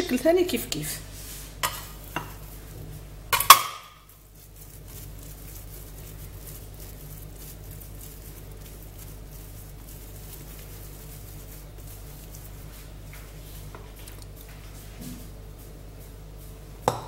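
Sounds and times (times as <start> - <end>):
hands working bread dough: 0.0 - 17.0
low steady hum: 0.0 - 17.0.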